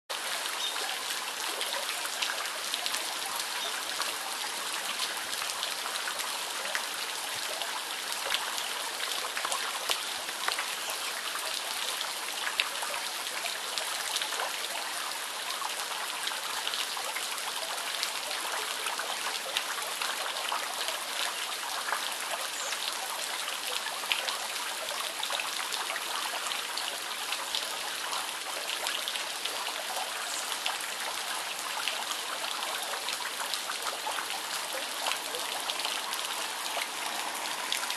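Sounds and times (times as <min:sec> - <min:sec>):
rain on water and wet grass: 0:00.1 - 0:37.9.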